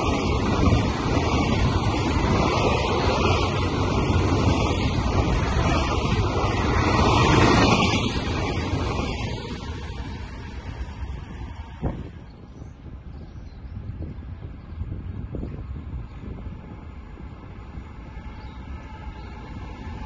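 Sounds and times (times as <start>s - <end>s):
freight train wagons rolling past: 0.0s - 20.0s.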